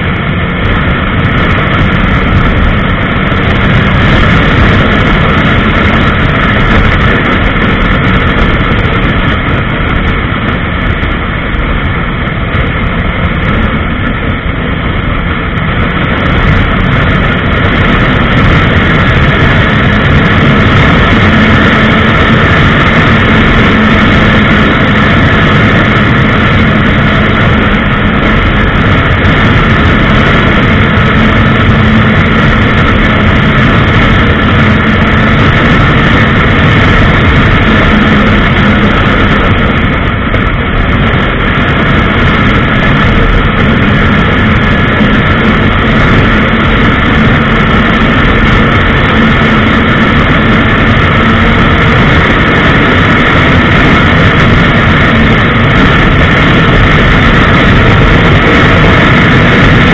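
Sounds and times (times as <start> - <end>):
motorcycle engine at speed: 0.0 - 59.9
wind rushing on microphone: 0.0 - 59.9.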